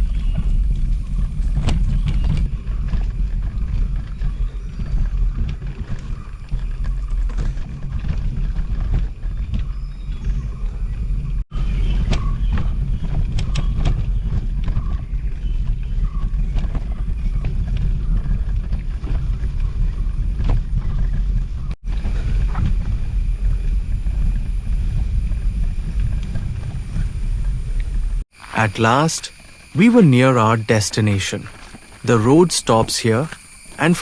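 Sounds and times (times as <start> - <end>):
bicycle clicks and rattles: 0.0 - 28.2
wind rumbling on microphone: 0.0 - 34.0.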